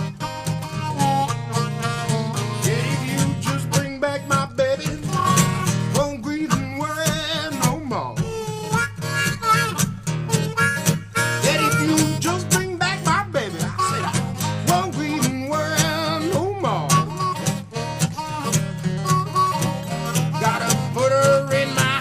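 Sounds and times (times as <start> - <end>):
acoustic guitar picking: 0.0 - 22.0
harmonica solo: 0.0 - 22.0.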